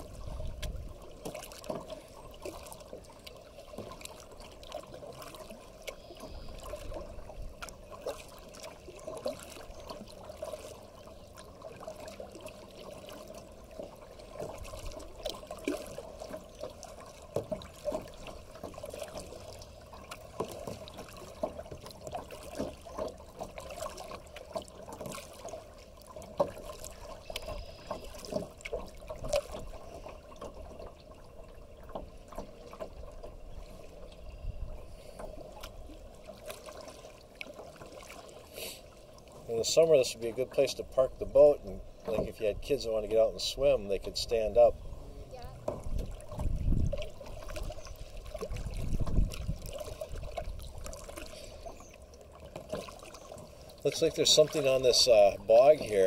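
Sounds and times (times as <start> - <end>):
paddle splashing water: 0.0 - 56.0.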